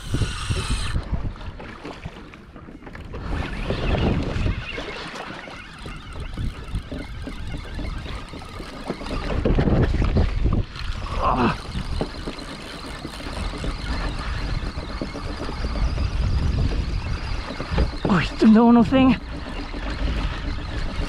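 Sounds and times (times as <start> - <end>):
water splashing against kayak: 0.0 - 21.0
wind buffeting microphone: 0.0 - 21.0.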